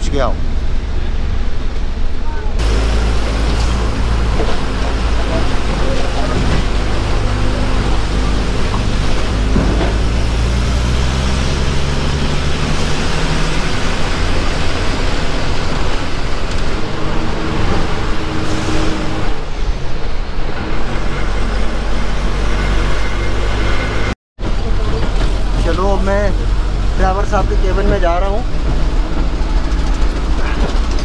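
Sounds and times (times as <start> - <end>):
bus engine running: 0.0 - 31.0
road noise: 0.0 - 31.0.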